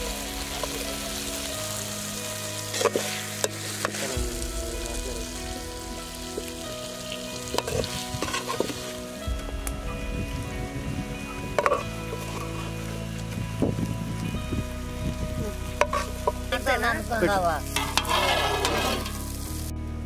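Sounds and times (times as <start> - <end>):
chicken sizzling in a pan: 0.0 - 19.7.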